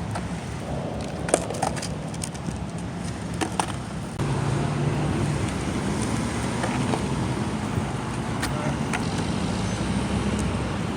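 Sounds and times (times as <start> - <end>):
skateboard wheels rolling on pavement: 0.0 - 10.9.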